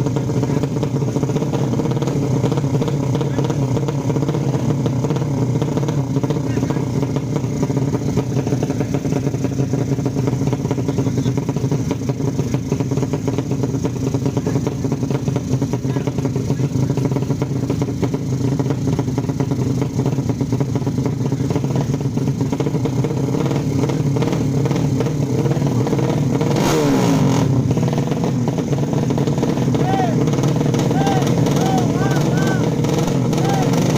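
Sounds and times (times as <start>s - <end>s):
motorcycle engines running: 0.0s - 33.9s.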